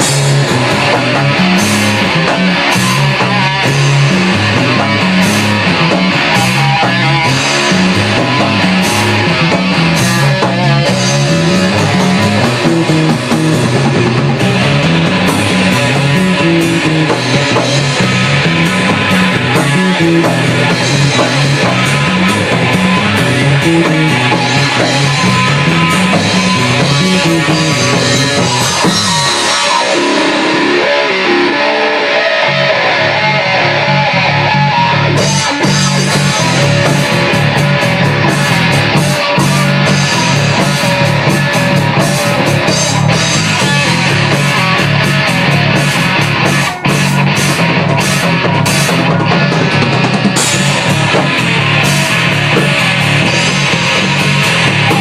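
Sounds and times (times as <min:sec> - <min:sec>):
electric guitar: 0:00.0 - 0:55.0
rock band playing live: 0:00.0 - 0:55.0.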